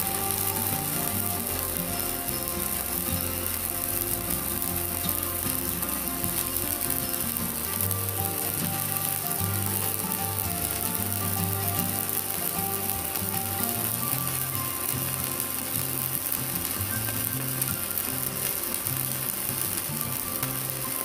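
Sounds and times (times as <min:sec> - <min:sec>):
welding arc burning: 0:00.0 - 0:21.0.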